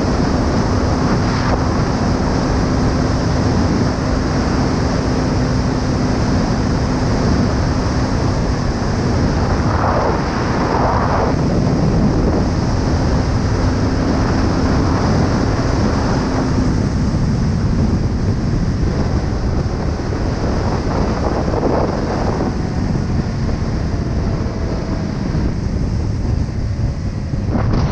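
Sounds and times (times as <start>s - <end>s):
wind noise on microphone: 0.0s - 27.9s.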